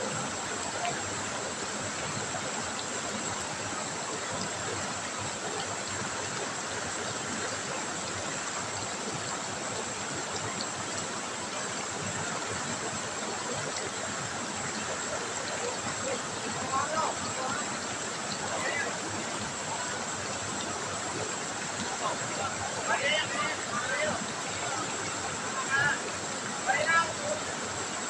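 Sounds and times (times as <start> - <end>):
river water trickling: 0.0 - 28.0.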